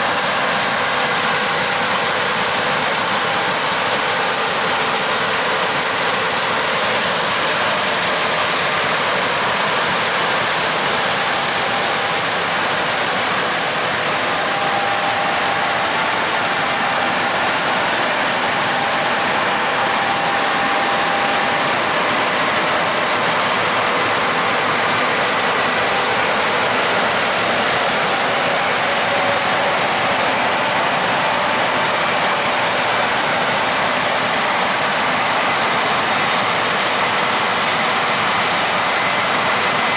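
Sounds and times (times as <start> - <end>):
combine harvesters running: 0.0 - 39.9
faint steady whines: 0.0 - 39.9.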